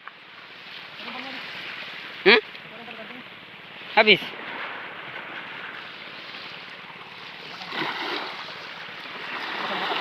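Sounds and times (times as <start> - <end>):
waves washing against shore: 0.0 - 10.0.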